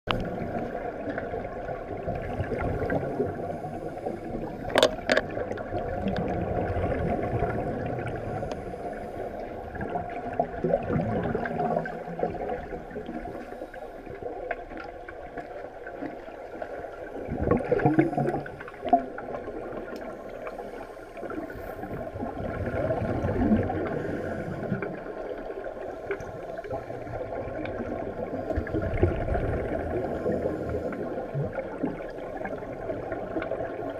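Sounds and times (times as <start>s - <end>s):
regulator bubbles gurgling: 0.1s - 33.9s.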